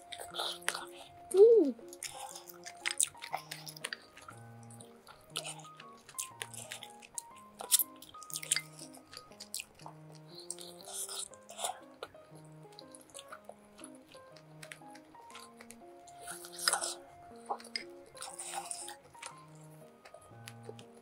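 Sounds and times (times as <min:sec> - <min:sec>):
chewing and eating: 0:00.0 - 0:21.0
light background music: 0:00.0 - 0:21.0.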